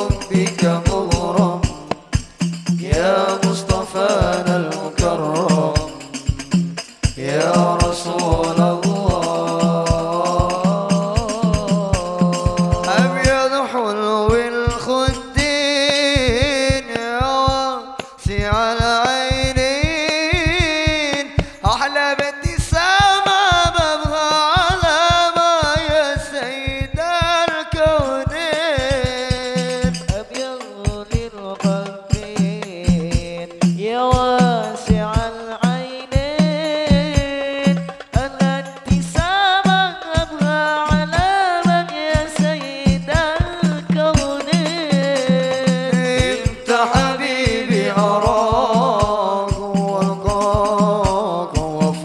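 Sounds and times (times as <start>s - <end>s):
person singing long ornamented notes: 0.0s - 18.0s, 27.4s - 52.0s
drum strokes: 0.0s - 52.0s.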